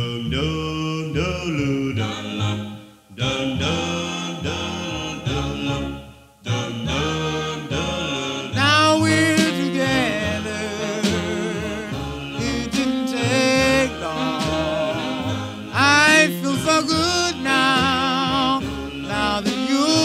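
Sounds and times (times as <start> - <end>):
vocal group singing harmony: 0.0 - 20.0
high lead voice with vibrato: 1.5 - 20.0.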